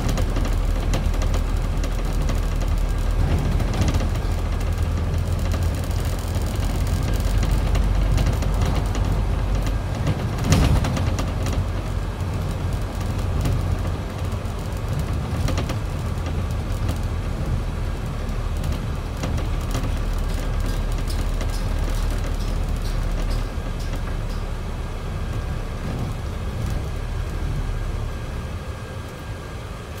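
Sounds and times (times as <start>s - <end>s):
bus engine and road drone: 0.0s - 30.0s.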